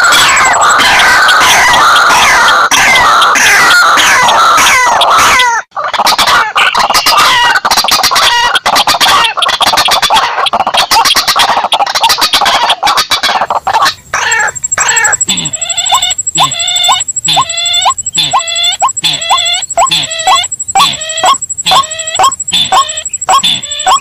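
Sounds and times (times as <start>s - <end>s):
birds croaking and chattering: 0.0s - 24.0s.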